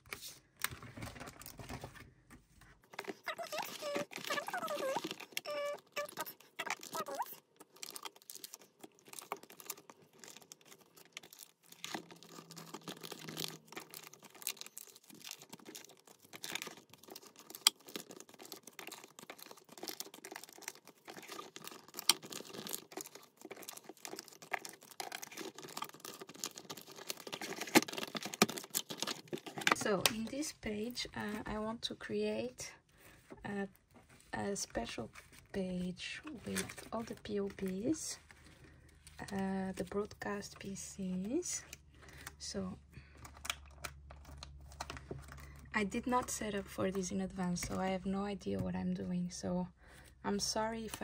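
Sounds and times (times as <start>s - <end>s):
plastic sleeves crinkling: 0.0s - 48.8s.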